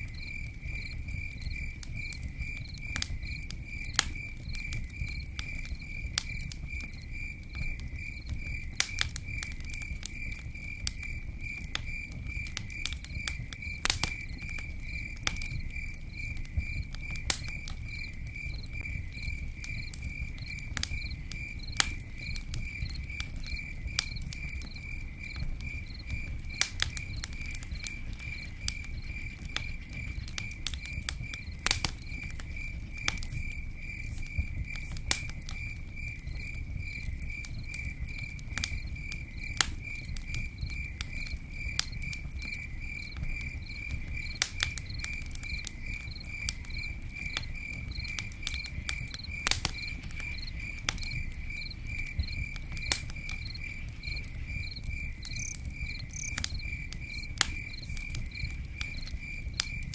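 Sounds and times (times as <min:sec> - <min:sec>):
campfire crackling and popping: 0:00.0 - 0:59.9
cricket chirping: 0:00.0 - 0:59.9.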